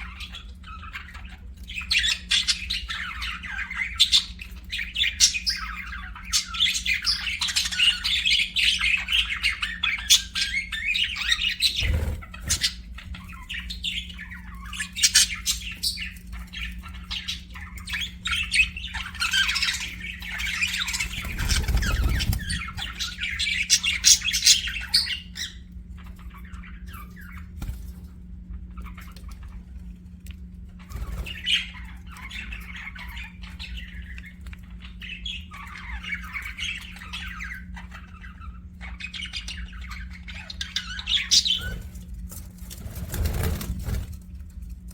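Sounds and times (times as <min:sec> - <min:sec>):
budgerigars chattering and chirping: 0:00.0 - 0:44.2
faint low hum: 0:00.0 - 0:44.9.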